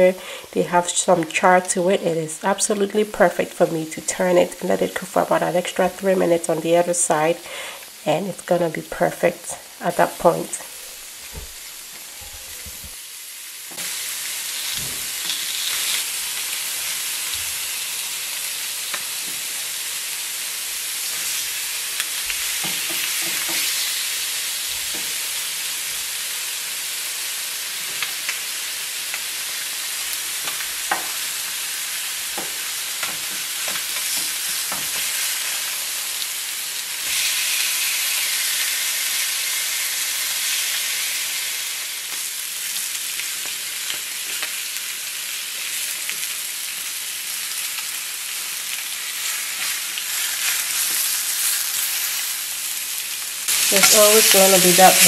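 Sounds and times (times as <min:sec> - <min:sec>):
seafood sizzling on griddle: 0:03.7 - 0:55.0.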